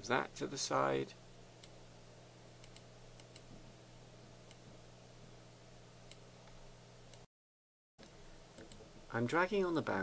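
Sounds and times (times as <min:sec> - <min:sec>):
low steady hum: 0:00.0 - 0:07.3, 0:08.0 - 0:10.0.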